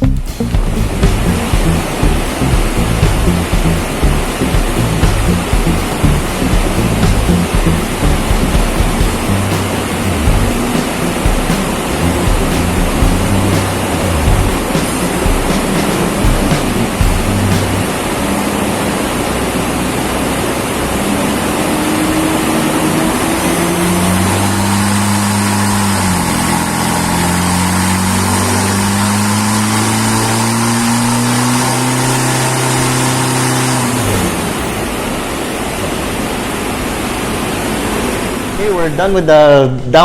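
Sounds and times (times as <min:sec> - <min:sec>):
engine revving: 0:00.0 - 0:35.0
loud rushing noise: 0:00.0 - 0:38.9.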